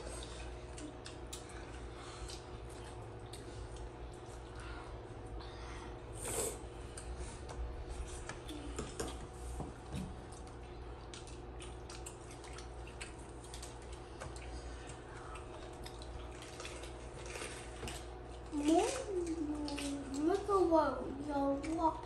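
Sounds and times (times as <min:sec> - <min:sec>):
people chewing: 0:00.0 - 0:05.4, 0:06.1 - 0:20.7
faint steady hum: 0:00.0 - 0:22.0.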